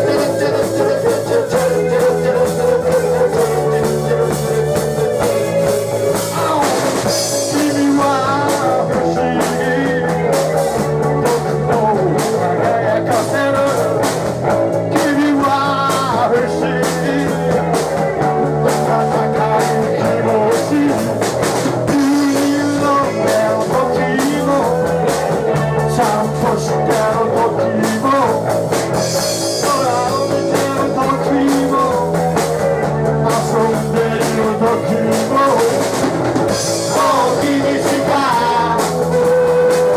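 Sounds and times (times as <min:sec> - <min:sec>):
bass guitar: 0:00.0 - 0:39.9
drum kit: 0:00.0 - 0:39.9
electric guitar lead: 0:00.0 - 0:39.9.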